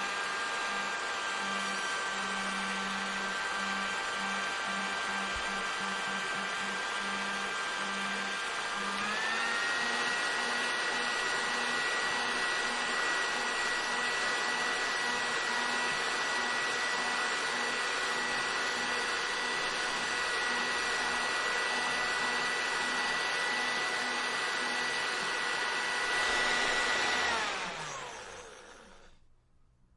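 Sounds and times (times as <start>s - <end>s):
hair dryer running: 0.0s - 29.2s.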